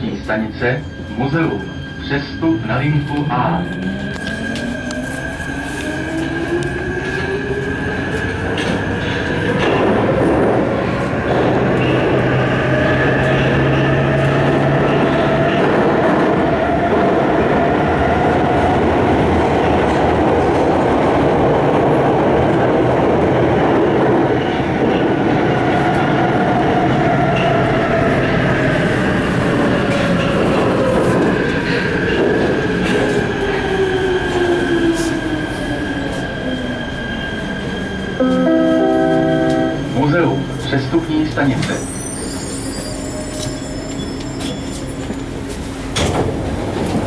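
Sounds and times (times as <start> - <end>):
train wheels rumbling on rails: 3.0 - 47.0.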